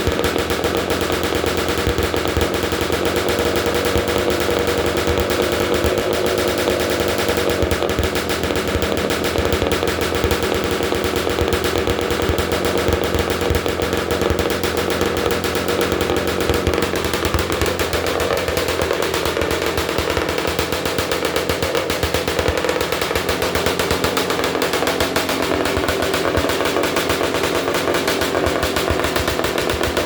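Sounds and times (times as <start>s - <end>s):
two-stroke engine running loud: 0.0s - 30.0s.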